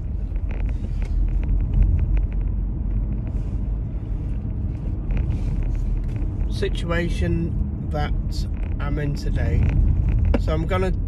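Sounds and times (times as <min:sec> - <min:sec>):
car interior engine and road rumble: 0:00.0 - 0:11.0.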